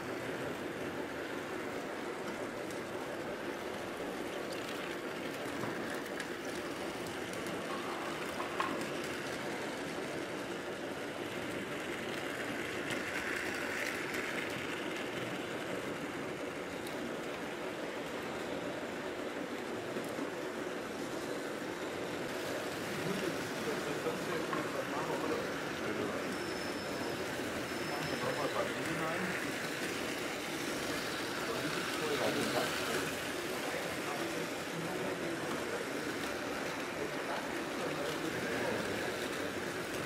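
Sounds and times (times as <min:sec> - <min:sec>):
toy trains whirring rattle: 0:00.0 - 0:40.0.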